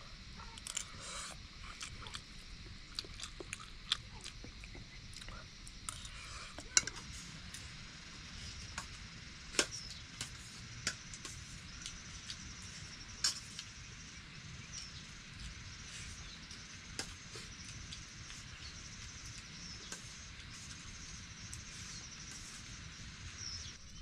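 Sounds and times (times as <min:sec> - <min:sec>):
high insect chirring: 0:00.0 - 0:24.0.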